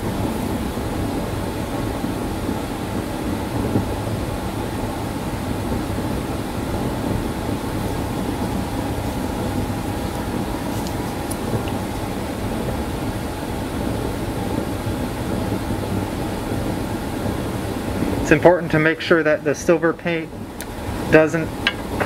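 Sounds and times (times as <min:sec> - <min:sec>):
faint constant whine: 0:00.0 - 0:22.0
machine rumble and hiss: 0:00.0 - 0:22.0.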